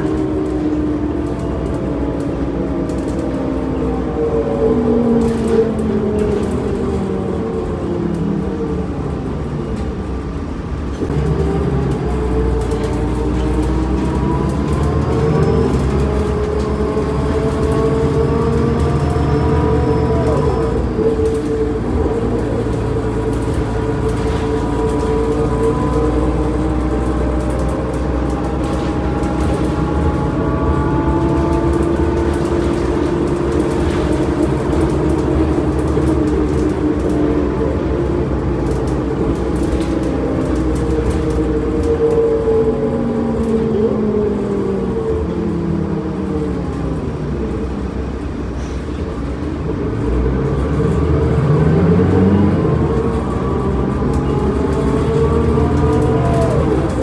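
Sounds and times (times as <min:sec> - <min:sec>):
bus diesel engine rumble: 0:00.0 - 0:57.0.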